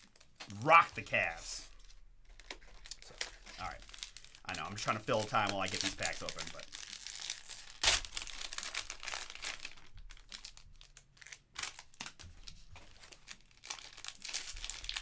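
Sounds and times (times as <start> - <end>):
card pack wrappers tearing: 0.0 - 12.2, 13.0 - 15.0
wrapper crinkling: 0.0 - 15.0.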